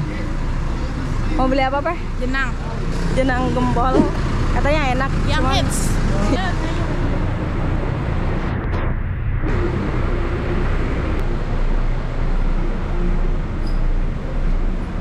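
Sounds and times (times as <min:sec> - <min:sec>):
street traffic engines: 0:00.0 - 0:15.0.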